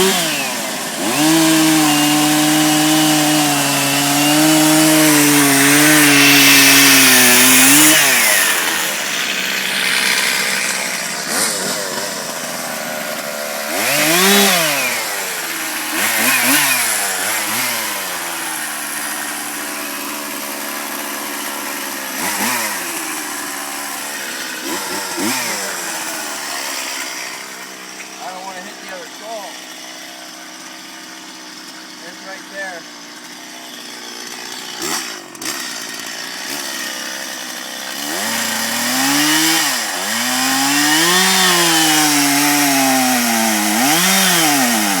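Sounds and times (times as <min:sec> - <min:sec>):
chainsaw revving: 0:00.0 - 0:45.0.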